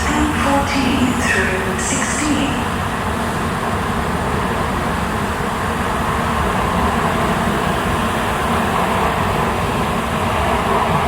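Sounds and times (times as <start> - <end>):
train rumble and hiss: 0.0 - 11.0.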